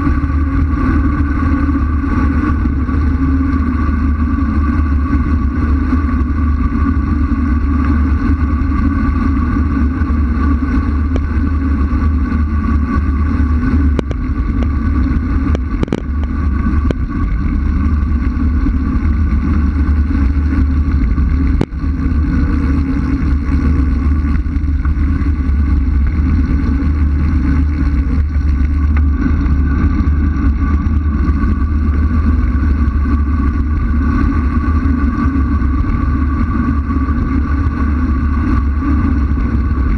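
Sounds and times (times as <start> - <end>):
faint whine: 0.0 - 39.9
wind rushing over microphone: 0.0 - 39.9.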